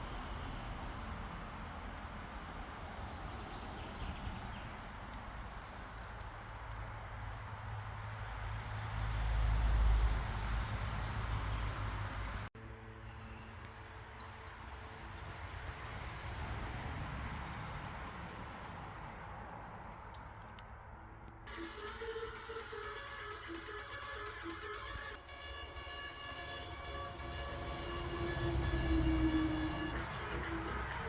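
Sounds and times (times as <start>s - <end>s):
birds chirping: 2.3s - 31.0s.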